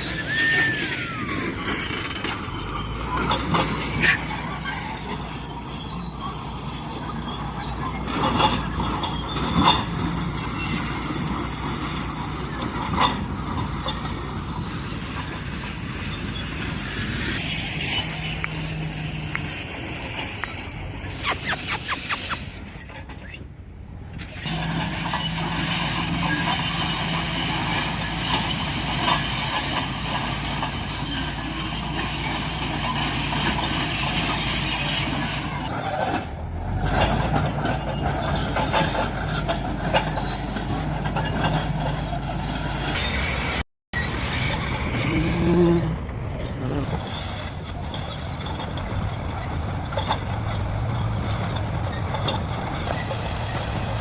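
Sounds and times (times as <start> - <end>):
diesel construction machinery rumble: 0.0 - 54.0.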